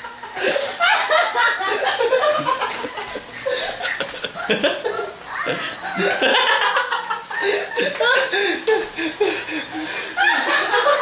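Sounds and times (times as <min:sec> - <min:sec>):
people laughing and giggling: 0:00.0 - 0:11.0.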